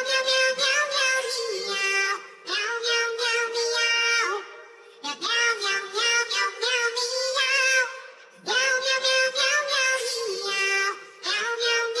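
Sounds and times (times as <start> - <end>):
synthetic singing voice: 0.0 - 12.0.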